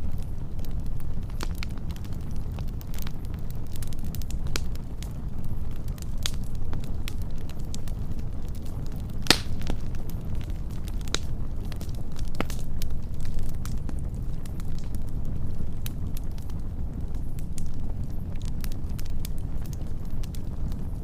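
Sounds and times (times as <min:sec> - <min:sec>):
fire crackles and pops: 0:00.0 - 0:21.0
wood fire rumbling: 0:00.0 - 0:21.0.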